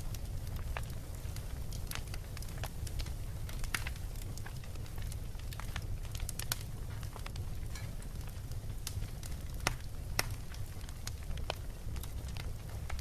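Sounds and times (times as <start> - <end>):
bonfire crackling: 0.0 - 13.0
sharp fire pops: 0.0 - 13.0.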